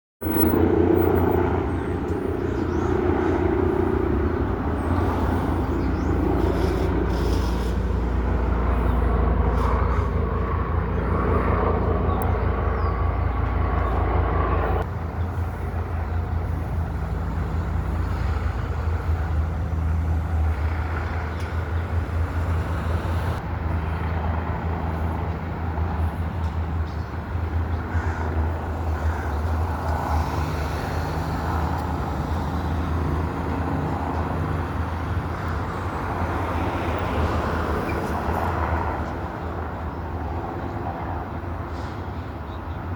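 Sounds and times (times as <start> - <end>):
helicopter rotor and engine: 0.2 - 42.9.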